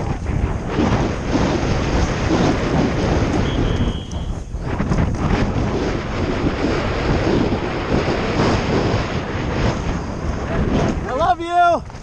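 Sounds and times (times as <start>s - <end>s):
bike tyres rumbling and rattling: 0.0s - 12.0s
wind rushing over microphone: 0.0s - 12.0s.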